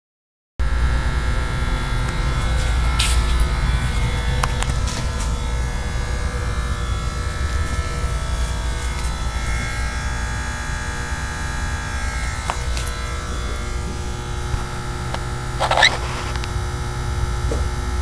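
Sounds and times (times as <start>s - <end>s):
stepper motors buzzing and whining: 0.6s - 18.0s.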